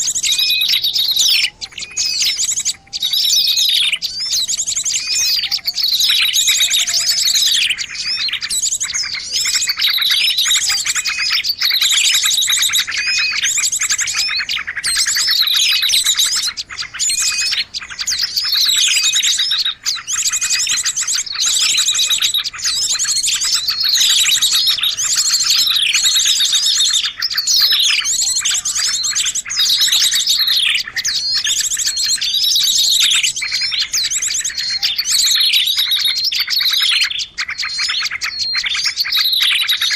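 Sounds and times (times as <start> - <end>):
falling bird call: 0.0 - 39.9
fast bird trills: 0.0 - 39.9
small birds chirping: 0.0 - 39.9.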